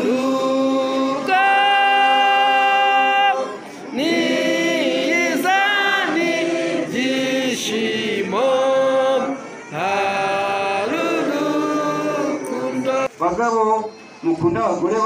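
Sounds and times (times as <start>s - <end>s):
voices singing long held notes: 0.0s - 13.2s.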